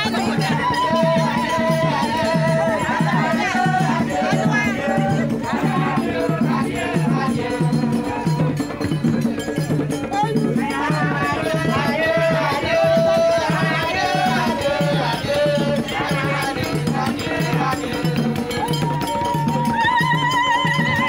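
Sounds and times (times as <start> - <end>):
steady drum beat: 0.0 - 21.0
voices singing: 0.0 - 21.0.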